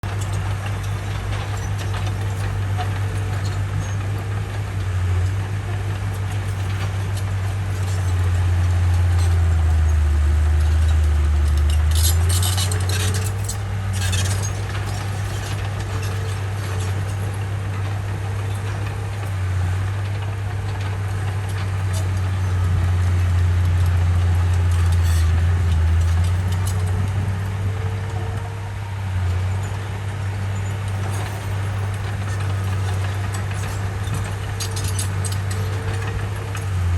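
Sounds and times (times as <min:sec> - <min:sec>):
bulldozer diesel engine droning: 0:00.0 - 0:36.9.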